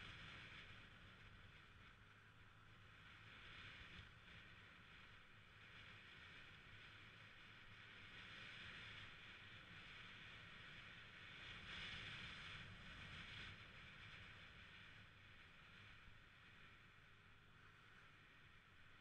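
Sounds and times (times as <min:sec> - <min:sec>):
muffled scooter engine and wind: 0:00.0 - 0:19.0.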